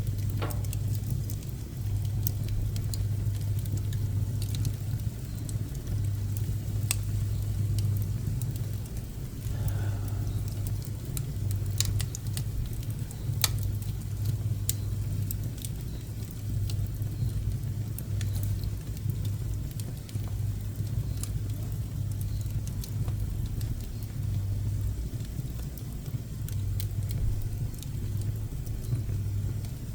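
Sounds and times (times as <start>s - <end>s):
low stove rumble: 0.0s - 29.9s
wood fire crackling and popping: 0.0s - 29.9s.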